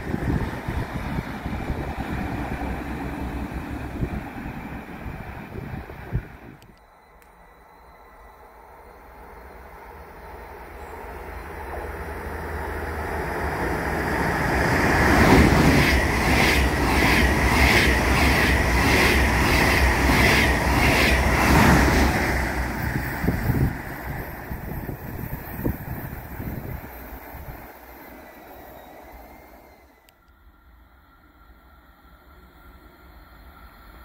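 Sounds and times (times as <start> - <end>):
high-speed train passing: 0.0 - 34.0.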